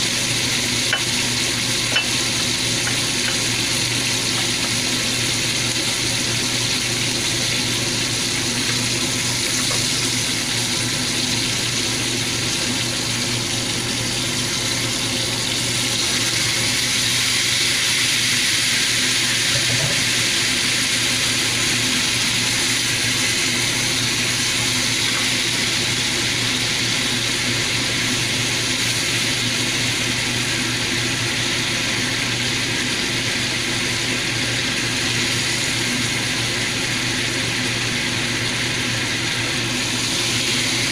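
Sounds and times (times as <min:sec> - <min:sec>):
steaks sizzling in a frying pan: 0:00.0 - 0:40.9.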